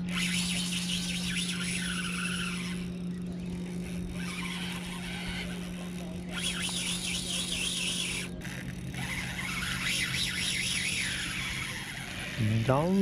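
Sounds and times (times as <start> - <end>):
fishing reel drag whirring: 0.0 - 13.0
steady low hum: 0.0 - 13.0.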